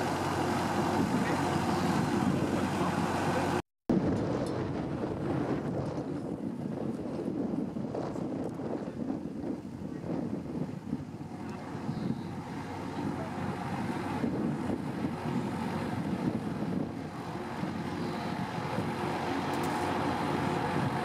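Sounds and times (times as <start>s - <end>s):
engine drone: 0.0s - 7.7s, 9.1s - 21.0s
wind: 0.0s - 21.0s.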